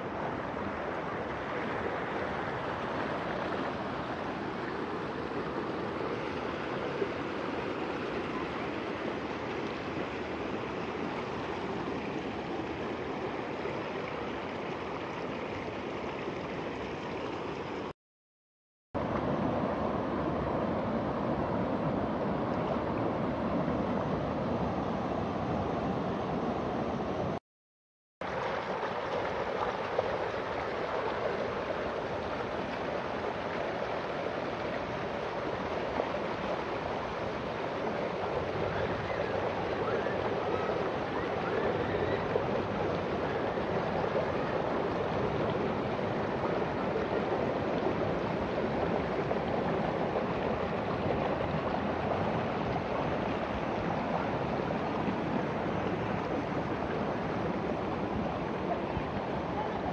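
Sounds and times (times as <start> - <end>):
river rushing over rocks: 0.0 - 17.9, 28.2 - 59.9.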